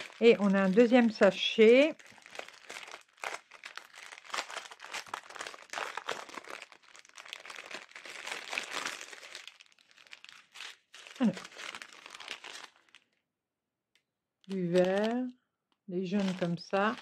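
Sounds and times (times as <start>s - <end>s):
plastic bags crinkling: 0.0s - 13.2s, 14.5s - 15.3s, 16.0s - 17.0s.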